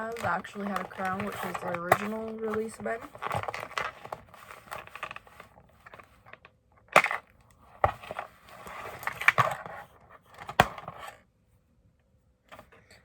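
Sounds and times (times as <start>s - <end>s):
plastic and cardboard crinkling: 0.0s - 11.2s.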